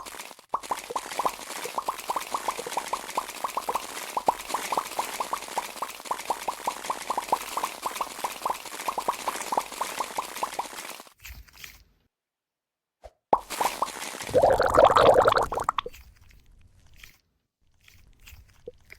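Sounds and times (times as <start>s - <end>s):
squishy toy squelching: 0.0s - 11.9s, 13.4s - 18.9s.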